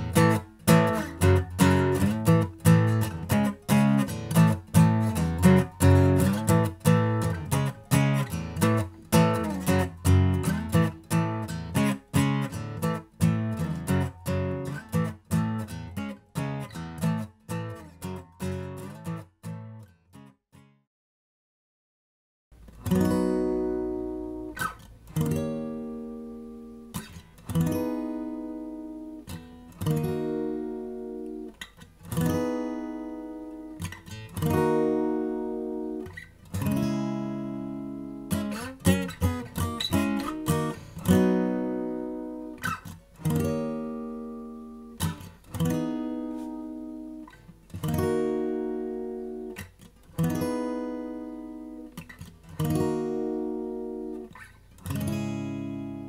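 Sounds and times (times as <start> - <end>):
acoustic guitar strumming chords: 0.0 - 20.3, 22.6 - 56.0.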